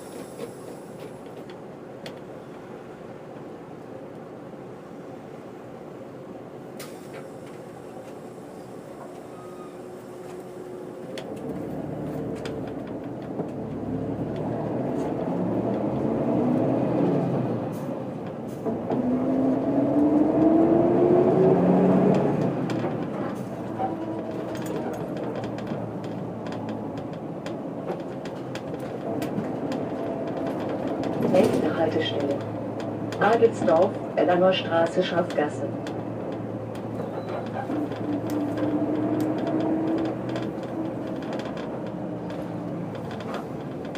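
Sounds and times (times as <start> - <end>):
bus engine accelerating: 0.0 - 43.9.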